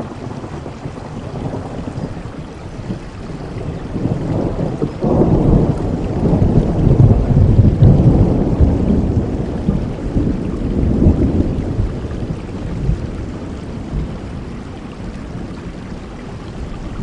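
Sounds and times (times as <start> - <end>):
thunder rolling: 0.0 - 14.2
steady rainfall: 0.0 - 17.0.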